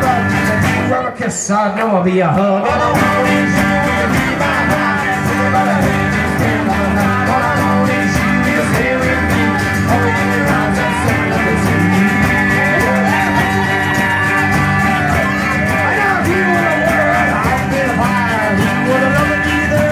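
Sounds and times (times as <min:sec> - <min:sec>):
live rock band playing: 0:00.0 - 0:01.2, 0:02.7 - 0:19.9.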